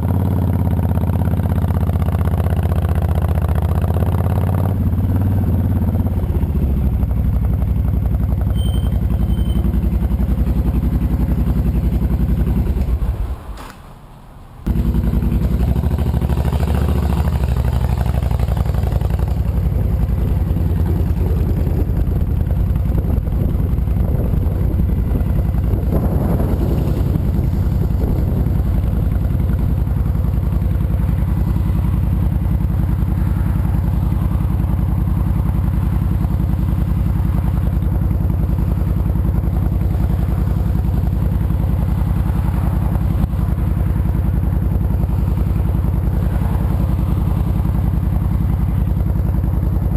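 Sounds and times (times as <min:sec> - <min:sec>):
motorcycle engine running: 0:00.0 - 0:13.2, 0:14.7 - 0:49.9.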